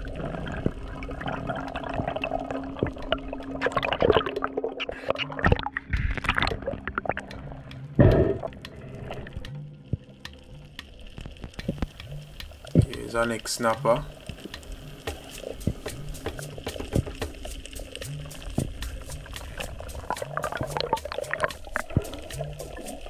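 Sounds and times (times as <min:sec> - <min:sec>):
water splashing and gurgling: 0:00.0 - 0:23.0.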